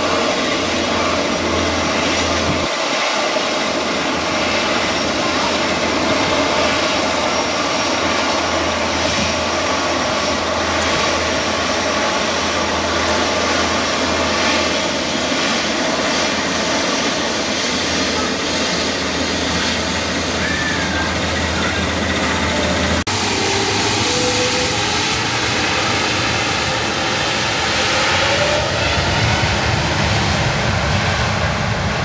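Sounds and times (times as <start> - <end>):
jet airliner passing: 0.0 - 32.0.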